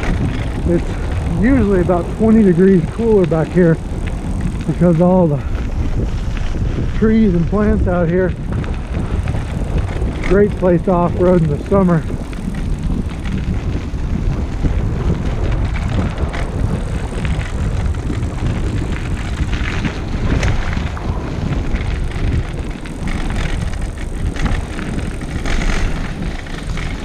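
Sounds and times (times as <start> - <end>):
trike rumbling and rattling on dirt: 0.0 - 27.0
wind buffeting microphone: 0.0 - 27.0.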